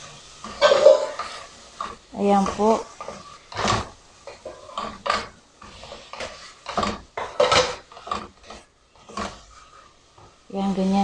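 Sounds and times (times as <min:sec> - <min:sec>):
wooden spatula scraping metal pot: 0:00.0 - 0:11.0.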